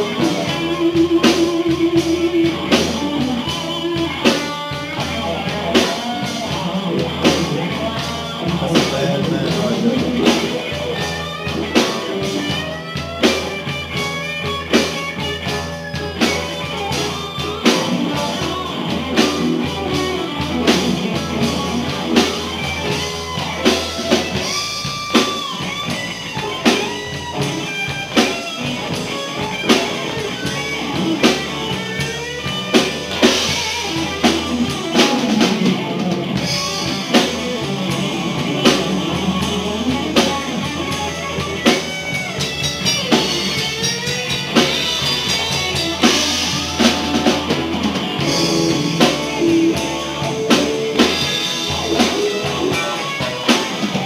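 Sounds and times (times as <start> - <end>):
bass guitar: 0.0 - 54.0
drum kit steady beat: 0.0 - 54.0
electric guitars: 0.0 - 54.0.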